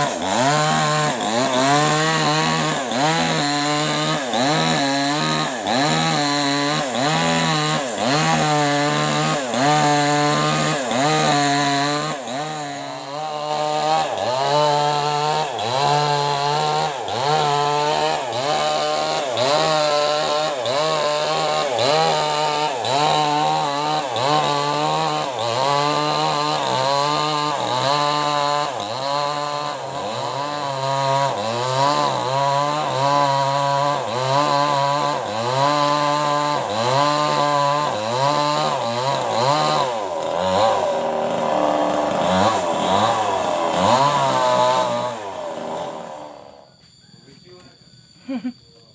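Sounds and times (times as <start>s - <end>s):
chainsaw cutting wood: 0.0s - 47.6s.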